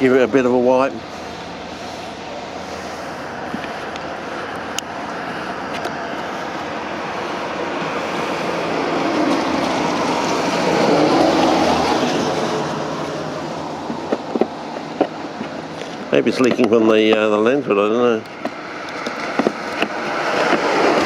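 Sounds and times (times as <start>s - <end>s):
road vehicle passing: 0.0s - 21.0s.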